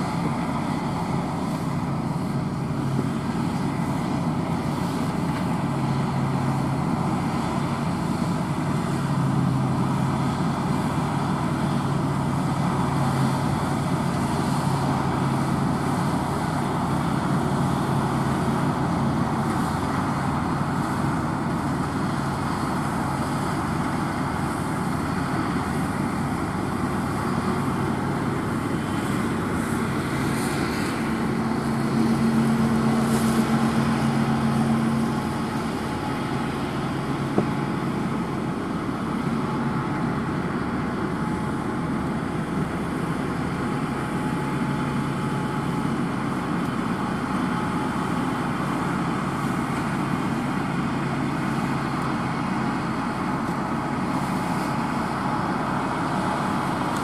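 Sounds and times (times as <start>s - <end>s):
combine harvester engine and threshing drone: 0.0s - 57.0s.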